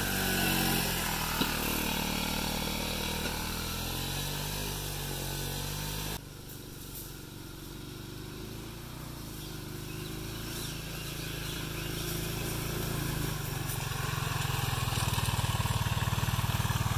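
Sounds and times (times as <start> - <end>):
single-cylinder engine running: 0.0 - 16.9.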